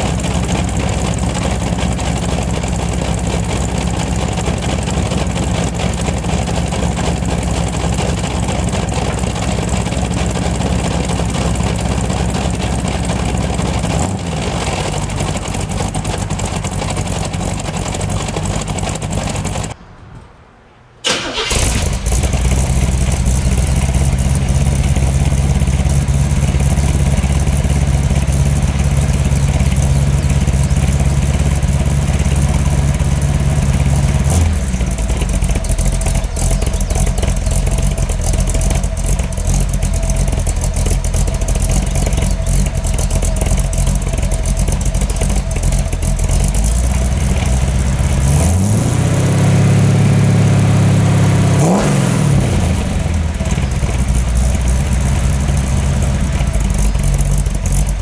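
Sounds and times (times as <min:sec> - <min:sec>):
car engine idling: 0:00.0 - 0:19.8, 0:21.0 - 0:58.0
engine revving: 0:00.0 - 0:19.8, 0:21.1 - 0:58.0.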